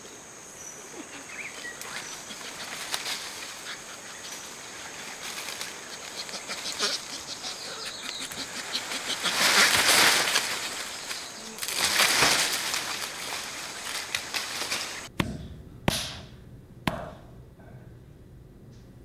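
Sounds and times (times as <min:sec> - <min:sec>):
leaves and twigs rustling: 0:00.0 - 0:16.4
high insect drone: 0:00.0 - 0:18.9.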